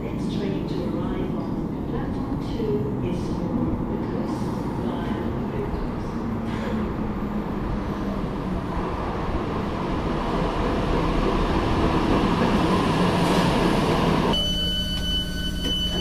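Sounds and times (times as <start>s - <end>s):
moving train rumble: 0.0s - 16.0s.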